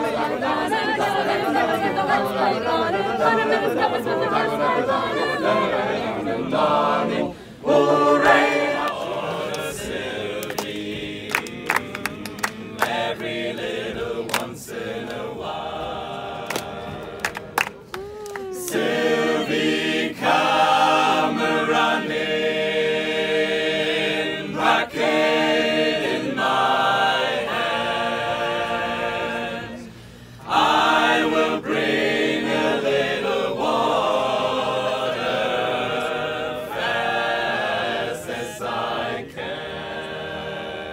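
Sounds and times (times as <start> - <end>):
group singing unaccompanied: 0.0 - 17.9, 18.5 - 40.9.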